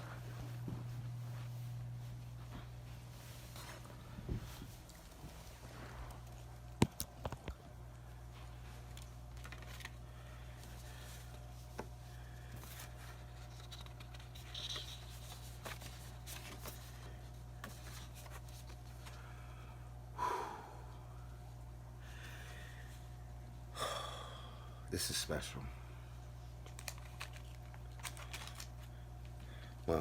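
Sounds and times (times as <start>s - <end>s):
low hum: 0.0s - 24.9s.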